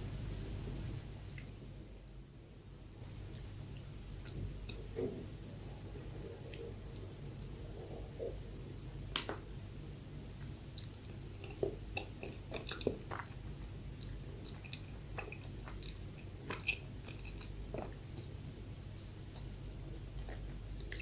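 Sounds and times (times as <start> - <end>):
chewing soft bread: 3.0 - 9.5, 10.3 - 21.0.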